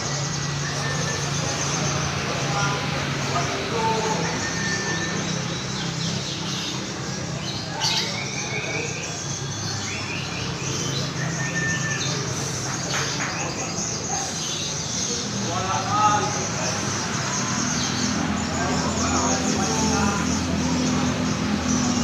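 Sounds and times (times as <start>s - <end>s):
background murmur: 0.0s - 22.0s
harsh bird calls: 0.0s - 22.0s
songbirds singing: 0.0s - 22.0s.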